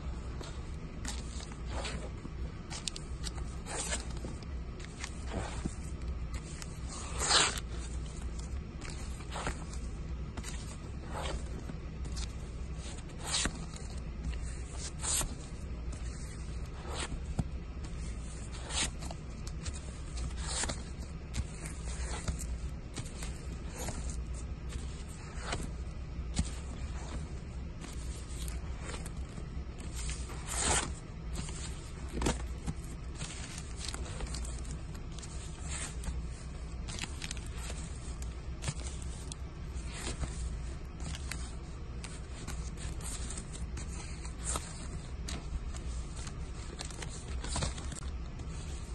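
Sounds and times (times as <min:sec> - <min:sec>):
record sleeves swishing: 0:00.0 - 0:48.9
steady low hum: 0:00.0 - 0:48.9.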